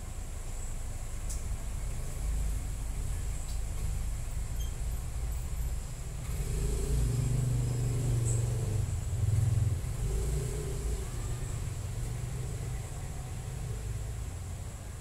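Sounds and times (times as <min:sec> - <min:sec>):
vehicle engine rumble passing: 0:00.0 - 0:15.0.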